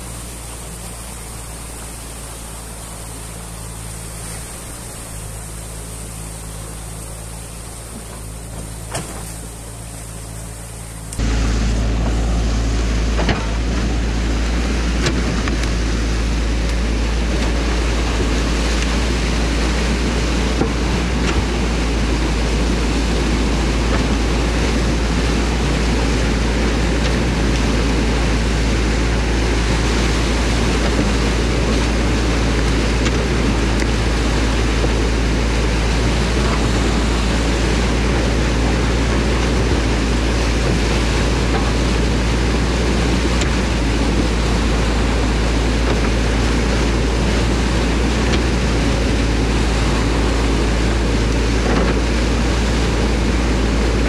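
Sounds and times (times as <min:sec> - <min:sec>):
constant rushing noise: 0:00.0 - 0:54.0
excavator diesel engine running: 0:00.0 - 0:54.0.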